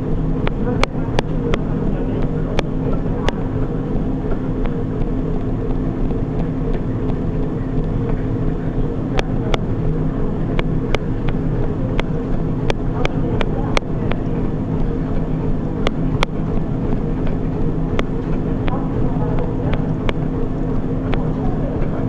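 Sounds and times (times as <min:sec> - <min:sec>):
treadmill motor hum: 0:00.0 - 0:22.0.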